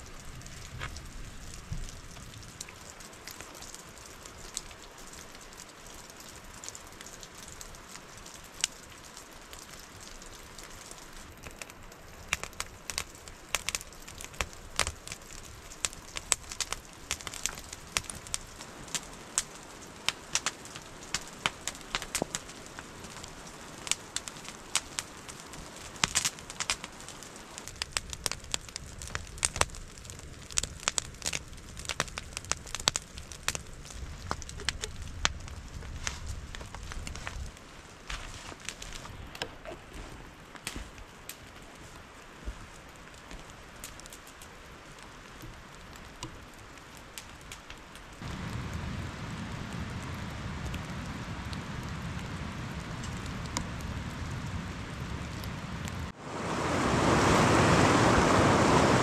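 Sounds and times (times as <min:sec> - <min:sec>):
wood fire crackling and popping: 0:00.0 - 0:58.0
rain hiss: 0:00.0 - 0:59.0.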